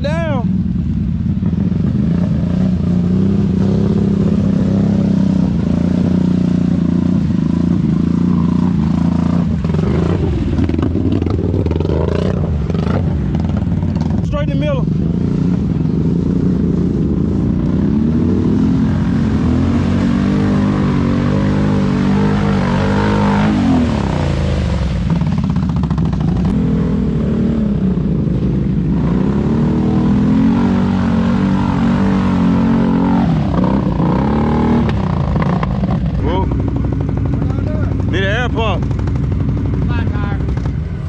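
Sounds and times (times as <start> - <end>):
quad bike engine revving: 1.4 - 41.0.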